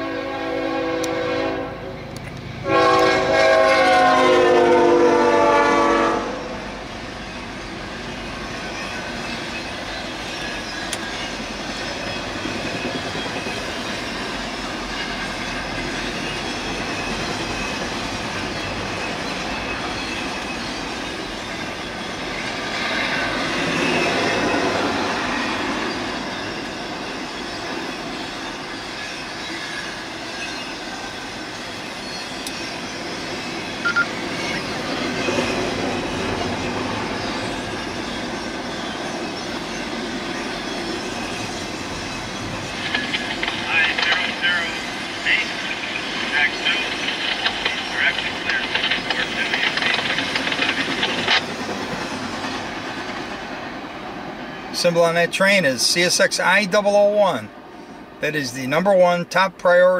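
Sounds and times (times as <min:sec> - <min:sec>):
train wheels on rail: 0:00.0 - 0:58.2.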